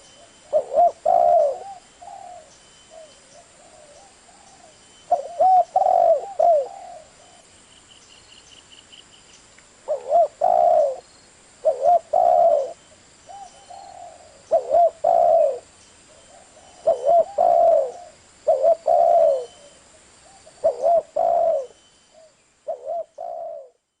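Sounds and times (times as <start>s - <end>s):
dove cooing: 0.0s - 7.4s, 9.8s - 23.8s.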